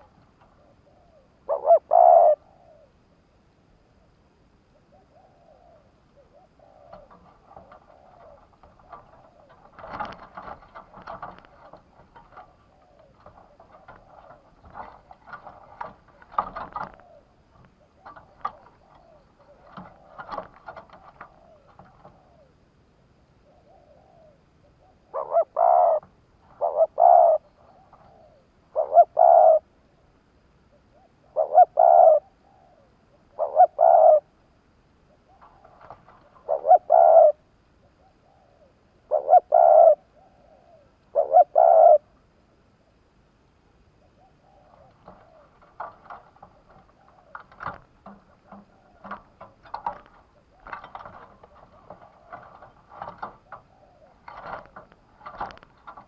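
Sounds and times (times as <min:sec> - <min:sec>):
dove cooing: 0:00.0 - 0:03.1, 0:04.7 - 0:22.6, 0:23.3 - 0:30.0, 0:30.7 - 0:34.4, 0:35.0 - 0:42.2, 0:43.9 - 0:56.0.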